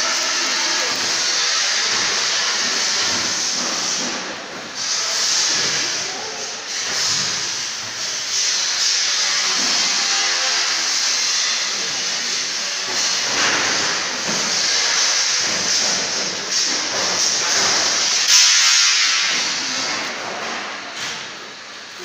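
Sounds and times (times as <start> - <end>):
loud hissing noise: 0.0 - 22.0.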